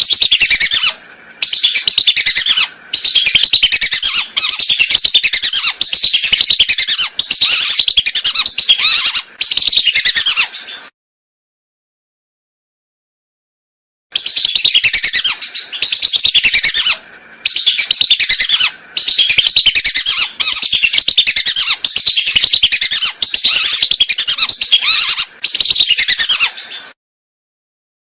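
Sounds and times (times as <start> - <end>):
ducks whistling calls: 0.0 - 10.7, 14.2 - 26.9.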